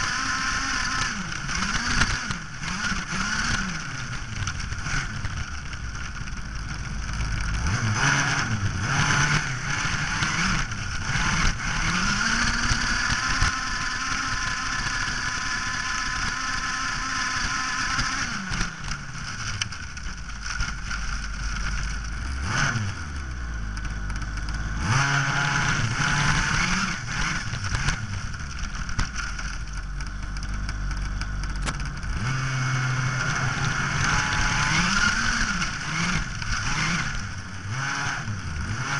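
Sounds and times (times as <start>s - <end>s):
rushing grass and air: 0.0s - 38.9s
small engine revving: 0.0s - 38.9s.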